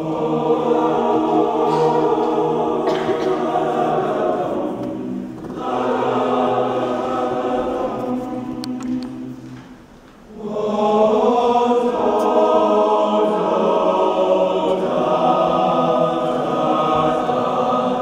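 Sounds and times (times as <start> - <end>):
men's choir singing: 0.0 - 18.0.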